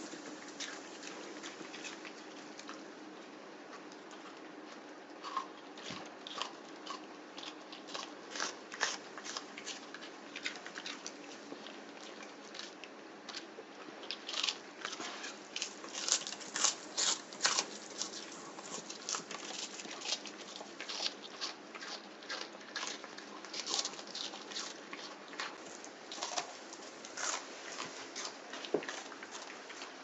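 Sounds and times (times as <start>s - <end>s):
pet crunching leafy vegetable: 0.0s - 30.0s.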